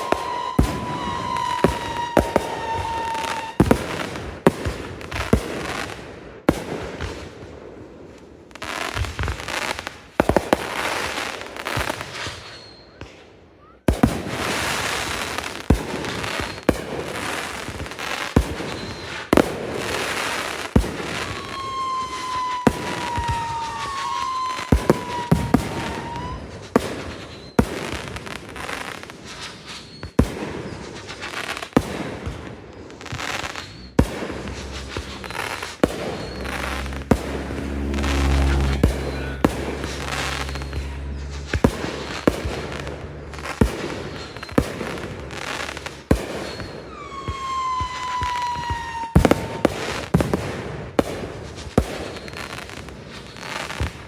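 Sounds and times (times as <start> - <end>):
high firework whistle: 0.0 - 6.0, 10.5 - 50.5, 51.8 - 54.0
firework bangs: 0.0 - 54.0
firework crackle: 0.0 - 54.0.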